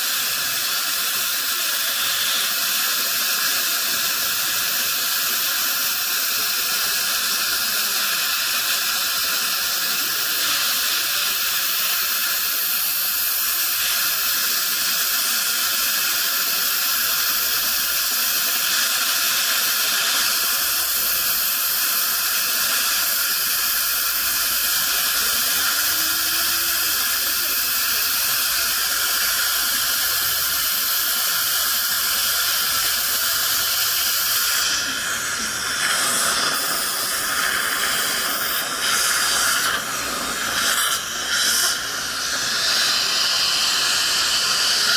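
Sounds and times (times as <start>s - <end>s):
dental spray hissing: 0.0s - 44.9s
dental suction: 0.0s - 44.9s.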